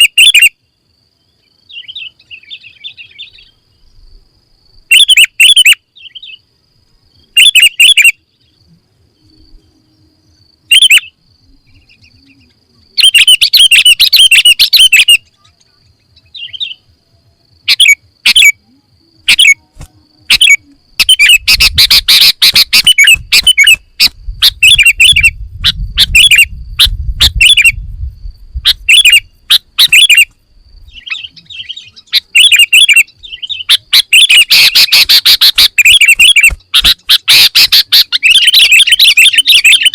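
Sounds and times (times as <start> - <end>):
bulbul singing: 4.9 - 6.5, 7.1 - 27.9, 28.6 - 39.9.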